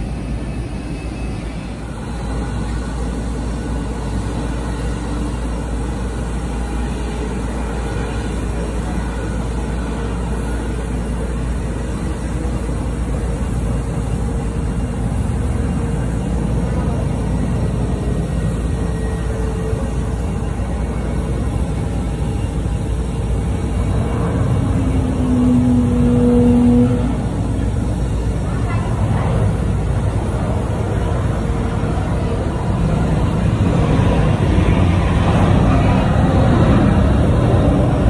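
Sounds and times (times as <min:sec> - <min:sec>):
faint jet whine: 0:00.0 - 0:38.0
jet engines rumbling: 0:00.0 - 0:38.0.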